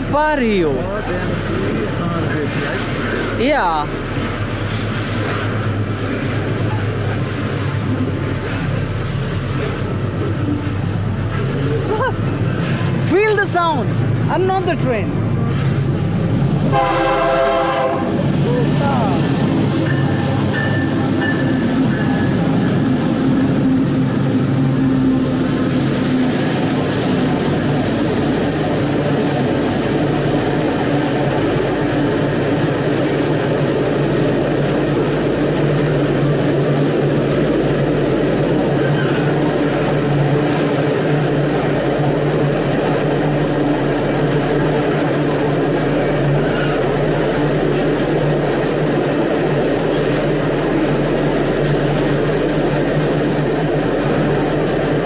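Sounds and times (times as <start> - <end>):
locomotive engine drone: 0.0 - 55.0
steel wheels rumbling on rail: 0.0 - 55.0.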